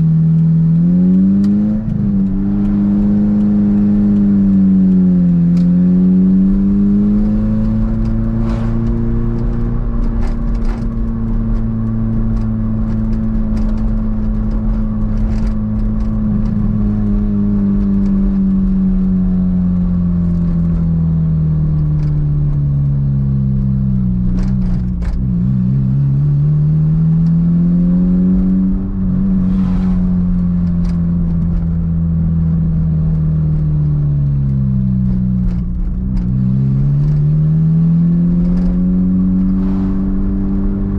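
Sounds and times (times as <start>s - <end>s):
car engine accelerating: 0.0s - 40.9s
low road rumble: 0.0s - 40.9s.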